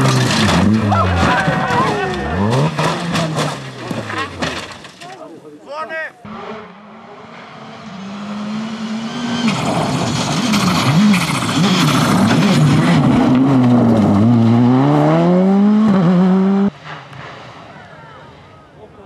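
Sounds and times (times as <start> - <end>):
rally car engine revving: 0.0 - 4.8, 6.2 - 17.6.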